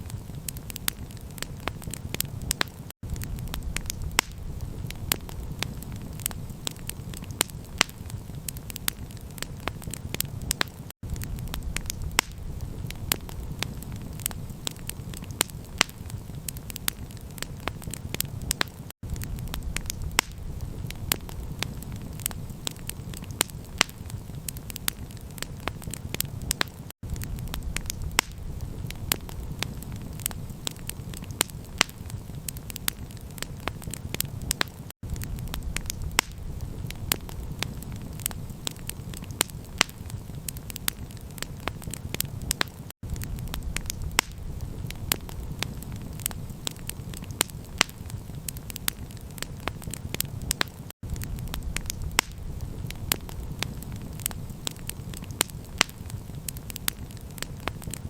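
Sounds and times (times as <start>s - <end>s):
campfire crackling and popping: 0.0s - 58.0s
low rumble of fire: 0.0s - 58.0s.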